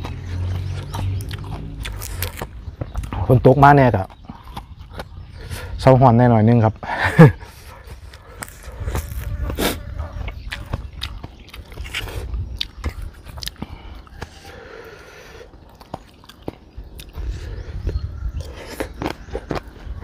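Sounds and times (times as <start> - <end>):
person chewing and crunching: 0.0 - 3.2, 3.8 - 5.6, 7.9 - 14.7, 15.4 - 20.0.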